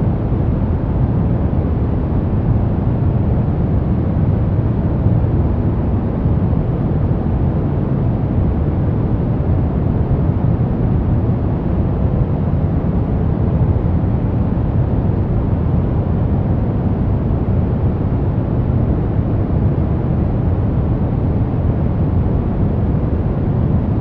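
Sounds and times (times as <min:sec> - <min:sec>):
deep white noise: 0:00.0 - 0:24.0.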